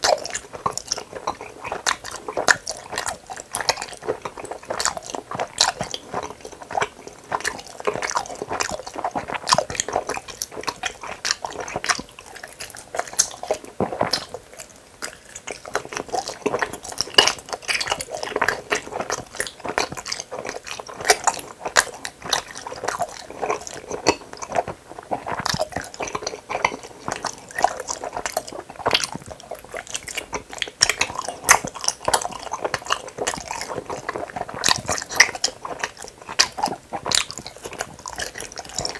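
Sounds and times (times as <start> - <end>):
chewing gummy candy: 0.0 - 38.9.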